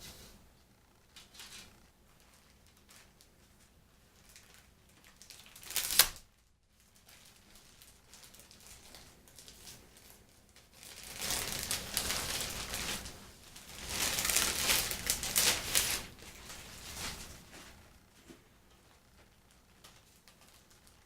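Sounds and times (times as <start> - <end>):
plastic packaging crinkling: 1.2 - 3.5, 4.1 - 17.7, 19.5 - 21.0.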